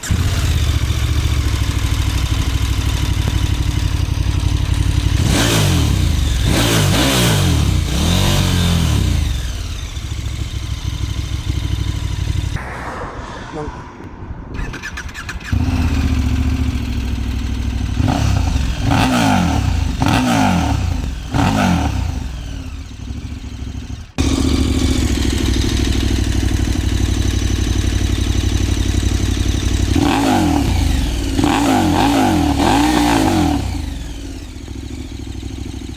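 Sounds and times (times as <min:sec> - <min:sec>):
motorcycle engine idling: 0:00.0 - 0:12.6, 0:14.9 - 0:35.9.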